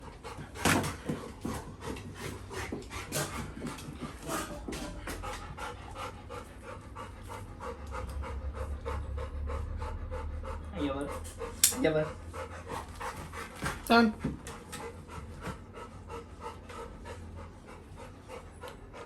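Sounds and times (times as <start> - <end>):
puppy panting: 0.0 - 19.0.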